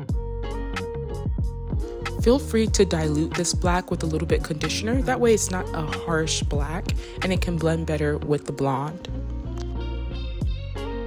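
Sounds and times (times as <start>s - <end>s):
instrumental music with beat: 0.0s - 7.6s, 9.1s - 11.0s.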